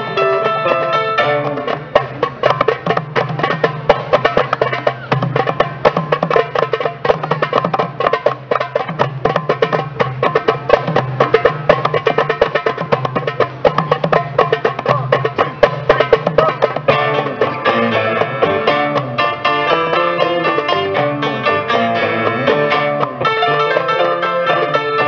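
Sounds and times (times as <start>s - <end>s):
hand drums playing: 0.0s - 25.0s
plucked lute: 0.0s - 25.0s.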